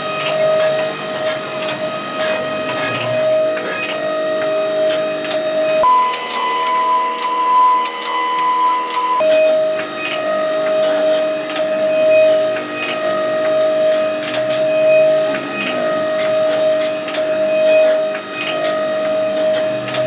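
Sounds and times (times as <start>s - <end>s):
metalworking machine whining: 0.0s - 20.0s.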